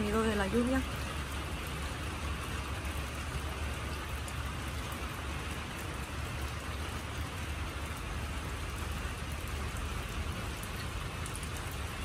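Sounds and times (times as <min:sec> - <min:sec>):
faint raindrop ticks: 0:00.0 - 0:12.0
steady rain hiss: 0:00.0 - 0:12.0.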